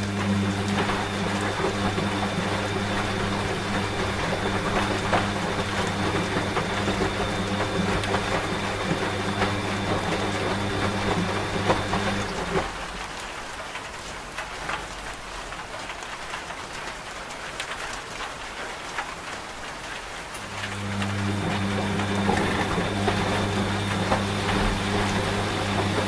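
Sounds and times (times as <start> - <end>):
washing machine humming: 0.0 - 14.7, 19.7 - 26.0
rain pattering: 0.0 - 26.0.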